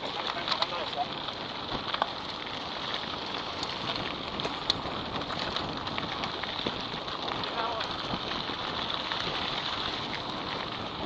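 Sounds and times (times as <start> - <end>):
bike clicks and rattles: 0.0 - 11.0
bike tyres crunching on gravel: 0.0 - 11.0.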